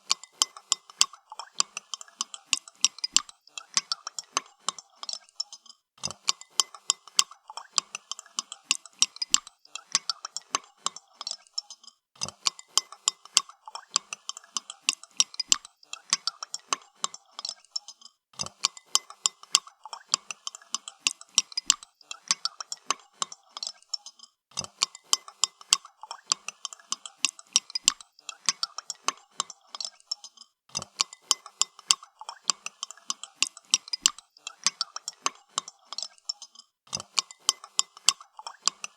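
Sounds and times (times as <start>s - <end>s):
spoon clinking in a cup: 0.0s - 38.9s.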